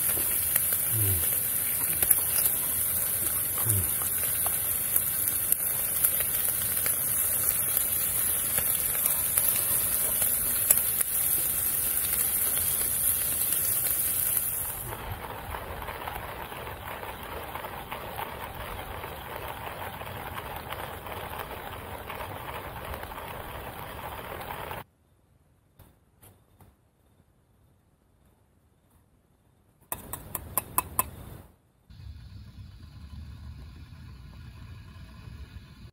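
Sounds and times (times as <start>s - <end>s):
outdoor background hiss: 0.0s - 35.9s.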